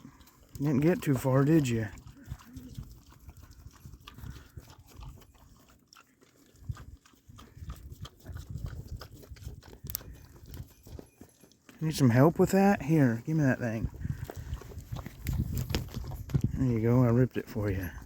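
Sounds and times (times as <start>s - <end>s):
animal crunching tortilla: 0.0s - 18.0s.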